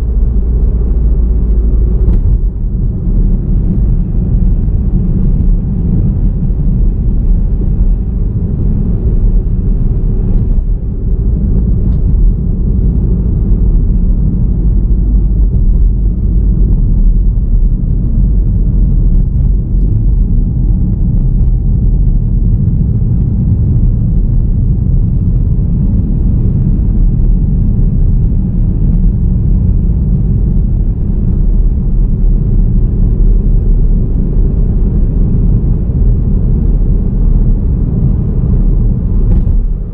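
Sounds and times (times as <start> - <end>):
car driving on road: 0.0 - 39.9
tyre and wind noise: 0.0 - 39.9.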